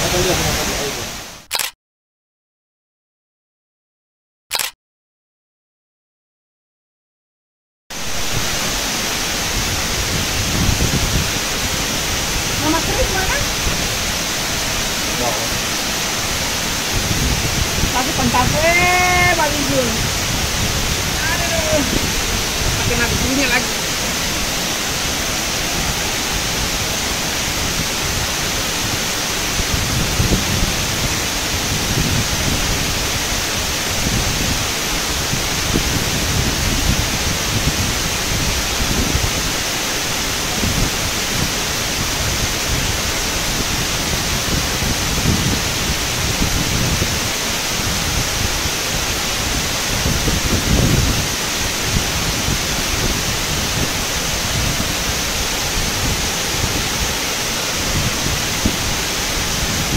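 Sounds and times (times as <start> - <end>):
waterfall rushing: 0.0 - 1.4, 7.9 - 59.9.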